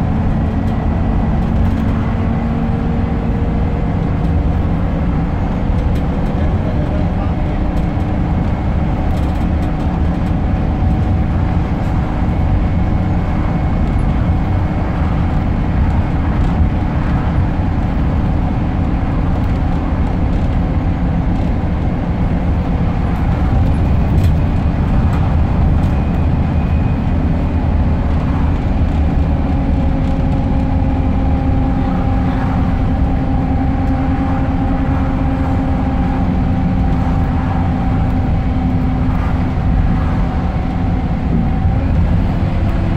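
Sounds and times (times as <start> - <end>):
bus diesel engine drone: 0.0 - 42.9
road and tyre noise: 0.0 - 42.9.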